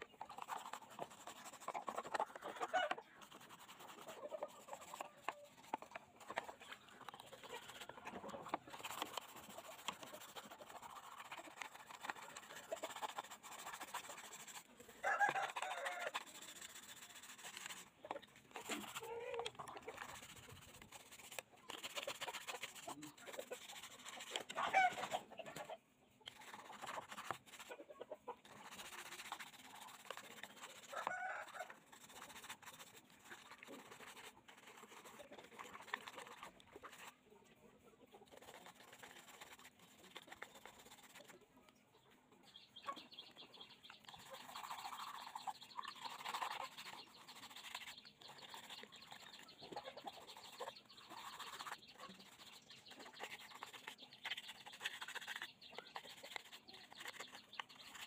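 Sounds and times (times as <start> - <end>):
chickens clucking: 0.0 - 32.3, 33.1 - 58.0.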